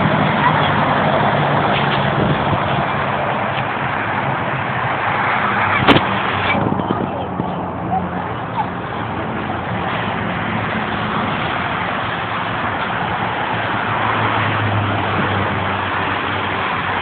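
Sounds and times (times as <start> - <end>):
freeway traffic roaring: 0.0 - 17.0
vehicle passing by: 0.0 - 17.0.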